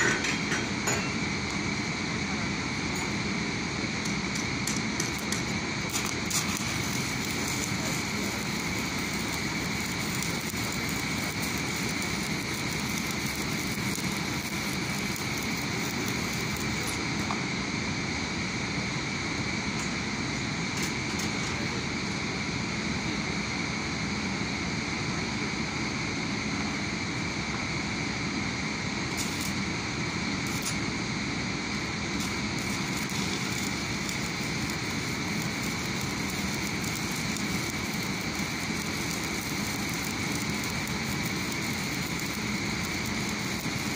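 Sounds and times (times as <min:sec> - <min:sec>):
arc welding crackling sizzle: 0:00.0 - 0:43.9
background machine noise: 0:00.0 - 0:43.9
constant machine whines: 0:00.0 - 0:43.9.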